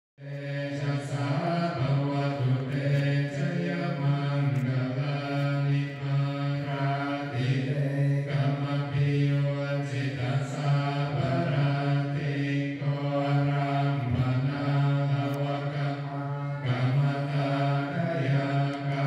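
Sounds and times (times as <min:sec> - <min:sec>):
men chanting together: 0:00.2 - 0:19.0.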